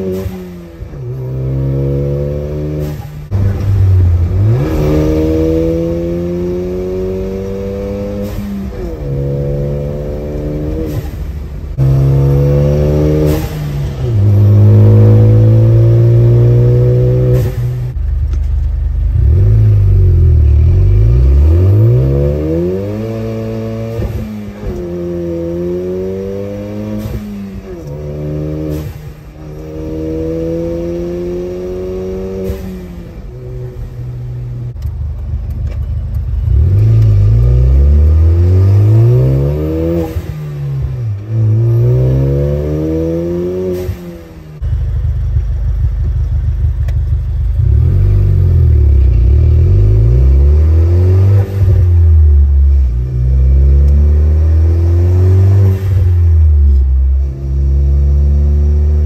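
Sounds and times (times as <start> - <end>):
car engine accelerating through gears: 0.0 - 18.4, 19.0 - 59.0.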